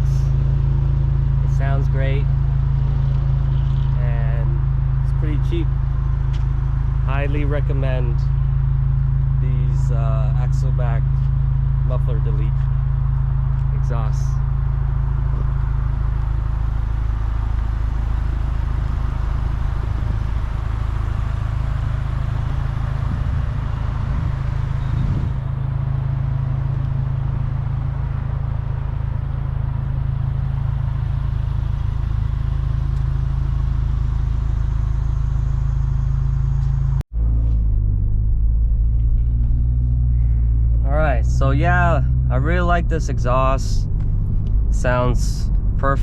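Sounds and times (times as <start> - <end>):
car engine and exhaust drone: 0.0 - 46.0.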